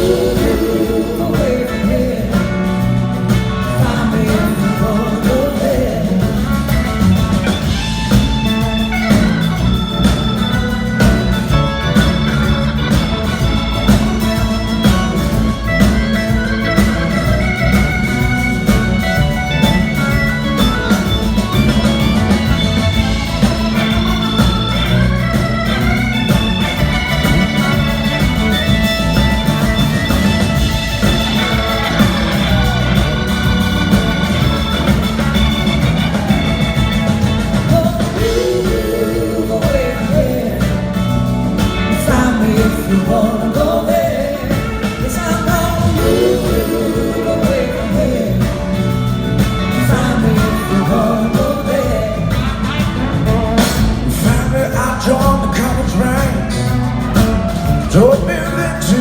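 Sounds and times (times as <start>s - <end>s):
organ solo: 0.0s - 59.0s
rock band playing: 0.0s - 59.0s.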